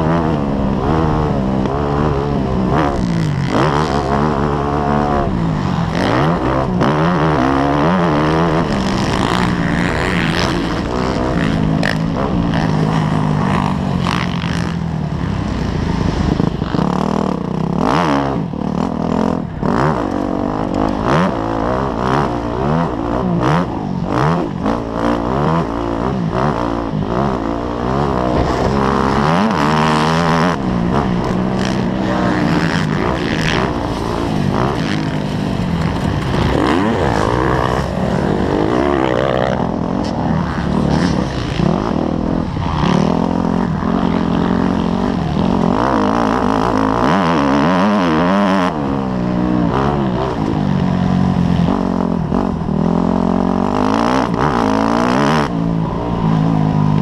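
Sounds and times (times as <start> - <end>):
dirt bike engine revving: 0.0 - 57.0
wind gusts: 0.0 - 57.0.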